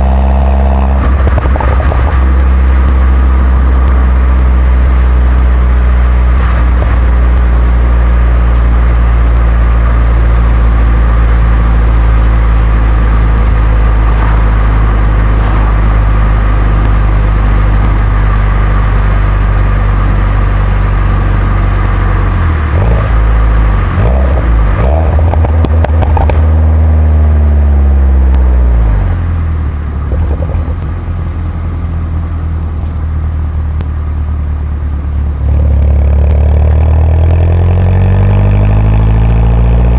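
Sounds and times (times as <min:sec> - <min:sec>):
car engine exhaust while driving: 0:00.0 - 0:39.9.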